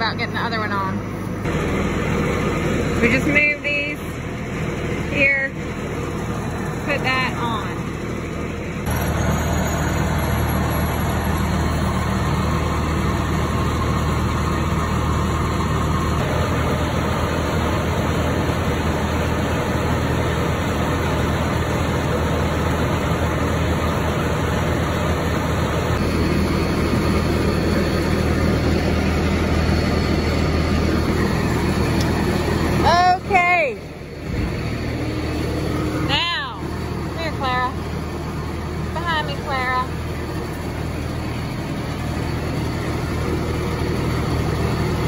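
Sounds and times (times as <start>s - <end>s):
combine engine idling: 0.0s - 45.0s.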